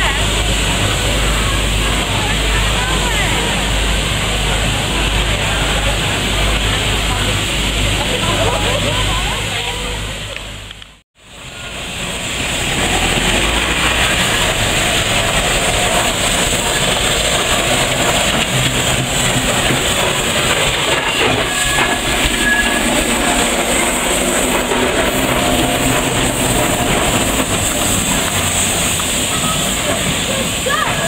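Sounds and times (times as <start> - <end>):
steam traction engine running: 0.0 - 31.0.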